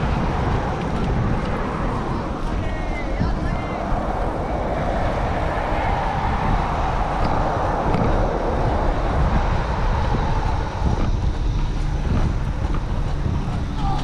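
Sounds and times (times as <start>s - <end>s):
bicycle tyre rolling noise: 0.0s - 14.0s
wind buffeting microphone: 0.0s - 14.0s.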